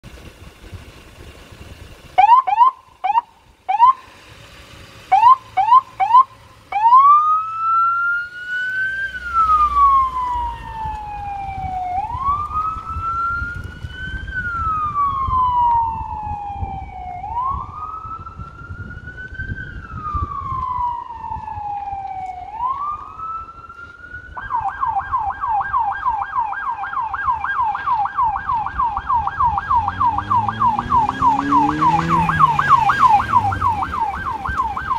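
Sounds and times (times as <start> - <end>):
electronic siren: 2.2 - 4.1, 5.1 - 34.9.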